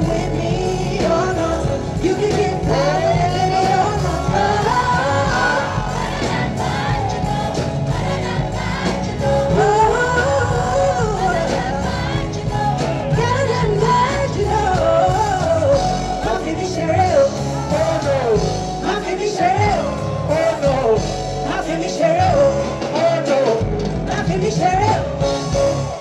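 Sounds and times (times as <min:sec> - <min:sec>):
heavy bass beat: 0:00.0 - 0:22.9
live band with singing: 0:00.0 - 0:26.0.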